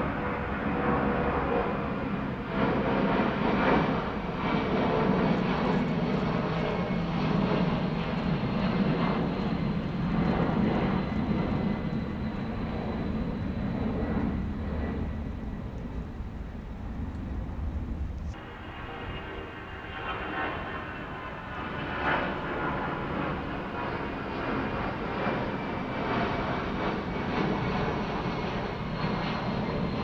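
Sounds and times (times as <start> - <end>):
high jet whine: 0.0 - 30.0
jet engines rumbling: 0.0 - 30.0.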